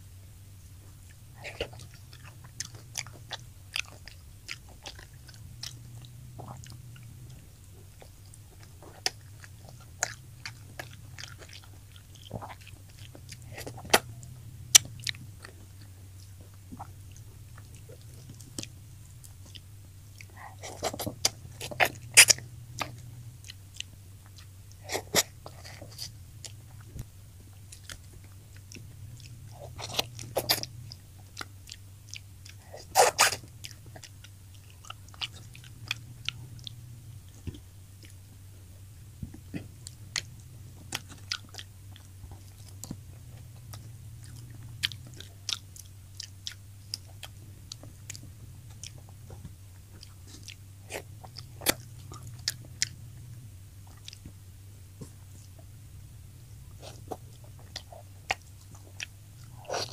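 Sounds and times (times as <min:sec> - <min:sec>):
low steady hum: 0:00.0 - 0:59.9
wet mouth clicks: 0:01.1 - 0:07.2, 0:07.9 - 0:27.1, 0:28.7 - 0:38.2, 0:39.2 - 0:54.4
crunching fried fish: 0:01.1 - 0:54.4, 0:55.0 - 0:59.9.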